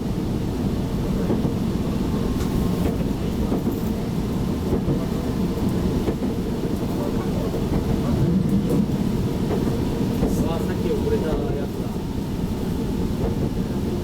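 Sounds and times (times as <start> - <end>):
train rumble on board: 0.0 - 14.0.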